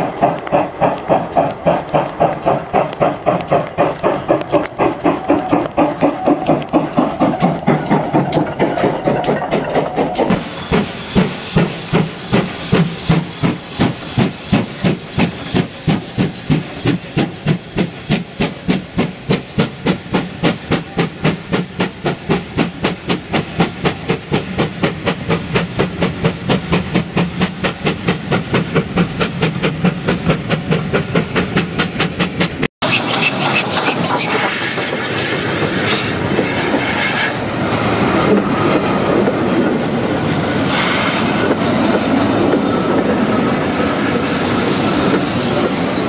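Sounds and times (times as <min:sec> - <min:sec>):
steam hissing: 0:00.0 - 0:39.1, 0:39.8 - 0:46.0
steam locomotive exhaust chuffs: 0:00.0 - 0:46.0.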